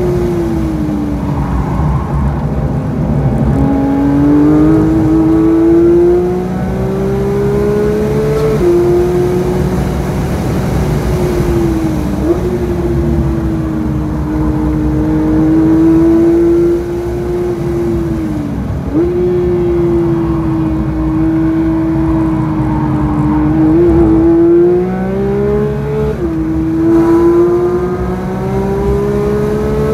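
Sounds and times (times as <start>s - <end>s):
car engine at high revs: 0.0s - 29.9s.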